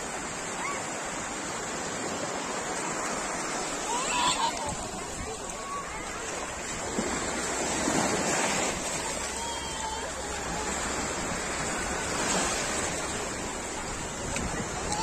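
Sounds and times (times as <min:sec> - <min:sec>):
sea waves breaking on sand: 0:00.0 - 0:15.0.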